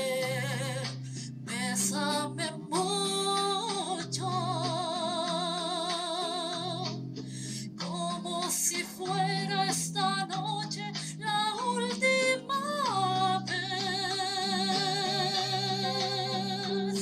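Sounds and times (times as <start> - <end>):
woman singing wordless melody: 0.0 - 7.0, 7.7 - 17.0
guitar accompaniment: 0.0 - 17.0.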